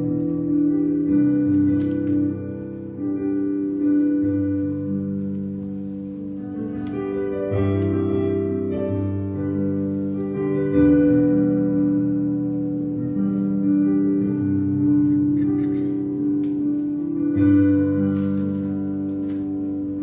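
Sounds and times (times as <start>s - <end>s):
slow keyboard music: 0.0s - 20.0s.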